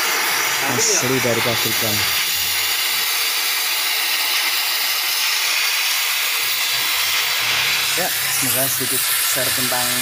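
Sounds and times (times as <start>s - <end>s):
gas cutting torch hissing: 0.0s - 10.0s.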